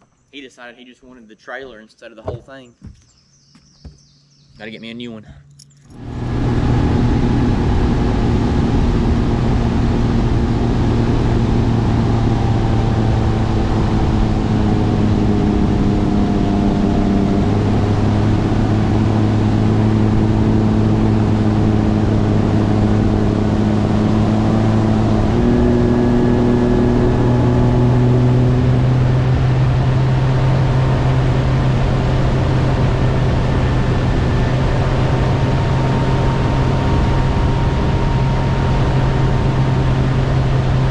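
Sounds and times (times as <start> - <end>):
outboard motor running: 2.2 - 40.9.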